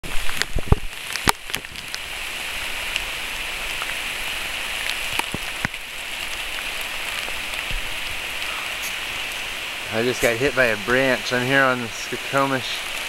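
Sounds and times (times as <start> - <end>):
heavy rain falling: 0.0 - 13.0
raindrops ticking close by: 0.0 - 13.0.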